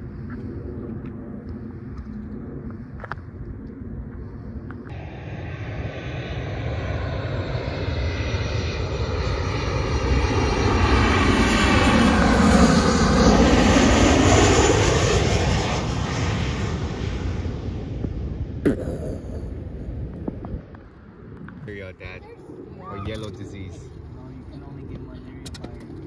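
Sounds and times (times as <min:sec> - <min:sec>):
airplane passing overhead: 0:00.0 - 0:26.0.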